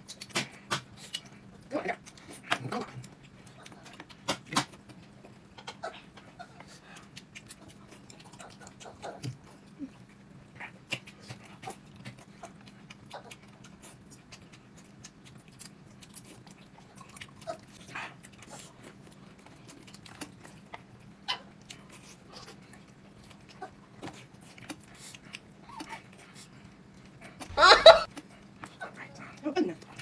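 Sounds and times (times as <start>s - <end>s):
people chewing: 0.0s - 30.0s.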